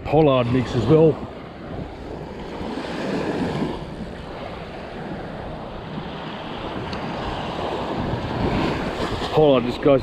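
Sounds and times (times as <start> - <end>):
wind buffeting microphone: 0.0 - 10.0
surf washing onto beach: 0.4 - 10.0.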